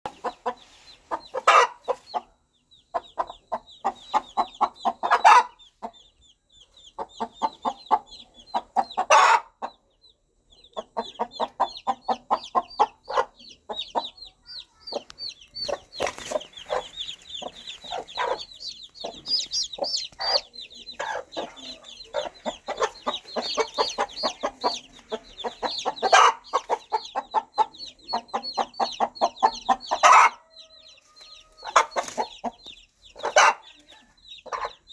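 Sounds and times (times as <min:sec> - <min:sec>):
chicks peeping: 0:00.1 - 0:34.9
hen clucking: 0:00.1 - 0:34.9.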